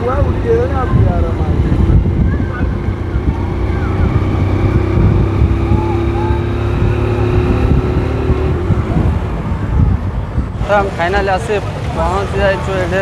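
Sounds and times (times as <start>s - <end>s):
faint voices: 0.0s - 13.0s
vehicle engine and road rumble: 0.0s - 13.0s.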